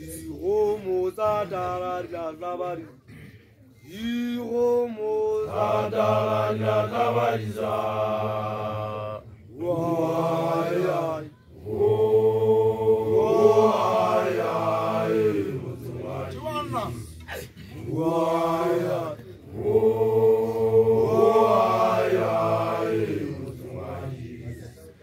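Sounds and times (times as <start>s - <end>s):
group chanting: 0.0s - 3.2s, 3.9s - 25.0s.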